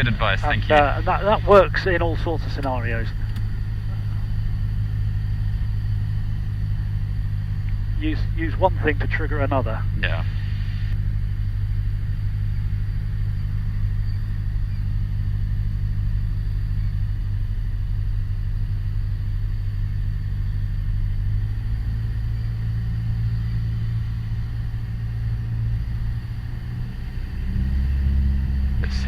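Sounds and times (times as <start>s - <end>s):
aircraft engine and propeller droning: 0.0s - 29.0s.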